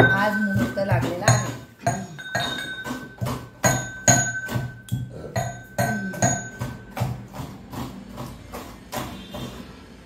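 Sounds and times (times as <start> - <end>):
pestle pounding in metal mortar: 0.0 - 10.0.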